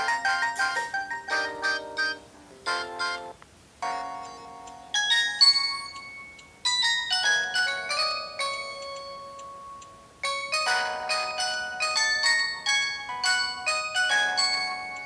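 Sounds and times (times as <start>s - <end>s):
phone ringtone melody: 0.0s - 15.0s.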